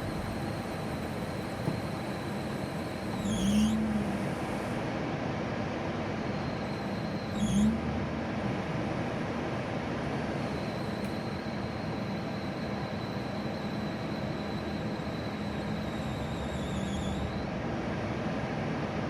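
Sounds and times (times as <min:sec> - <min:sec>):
drive belt squeals: 0:00.0 - 0:04.9, 0:06.1 - 0:17.8.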